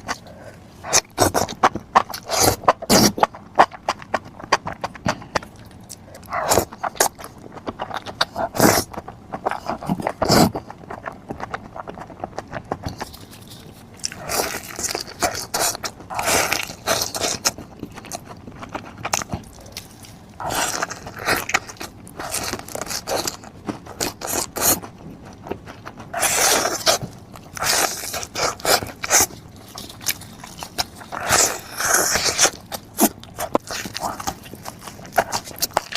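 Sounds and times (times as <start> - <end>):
person chewing and crunching: 0.0 - 35.9.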